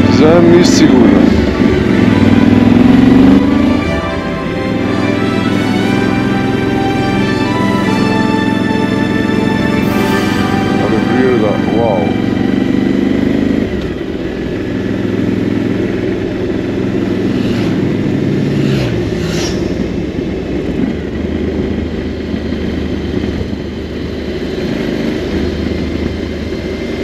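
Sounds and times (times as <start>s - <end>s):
motorcycle engine running: 0.0s - 9.9s, 11.1s - 27.0s
motorcycle passing: 0.0s - 21.7s.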